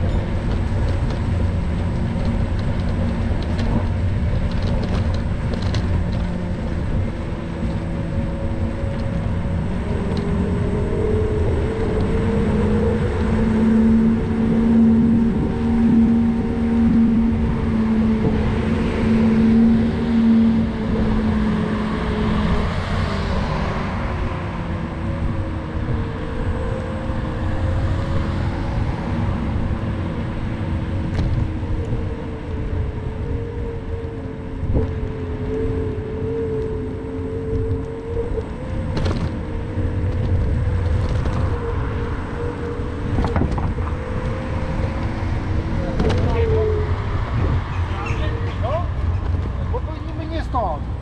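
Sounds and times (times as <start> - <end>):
road rumble: 0.0 - 51.0
steady whine: 0.0 - 51.0
wind on microphone: 0.0 - 51.0.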